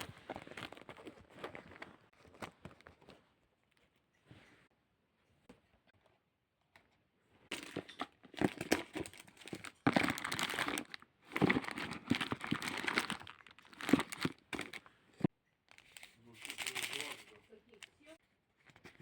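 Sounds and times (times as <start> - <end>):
crinkling and crumpling: 0.0 - 4.1, 7.5 - 19.0.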